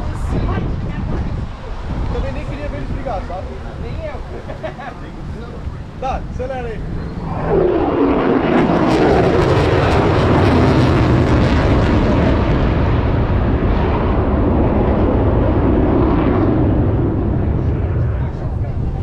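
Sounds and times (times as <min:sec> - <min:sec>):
jet flying by: 0:00.0 - 0:19.0.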